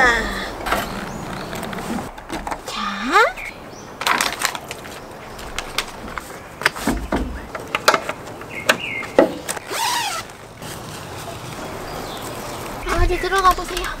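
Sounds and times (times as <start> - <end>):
tent poles clicking: 0.6 - 2.7, 4.0 - 14.0.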